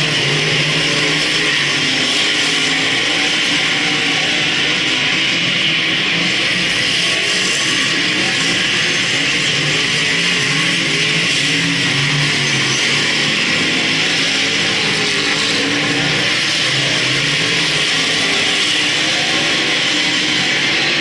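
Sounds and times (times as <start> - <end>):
race car engines on track: 0.0 - 21.0.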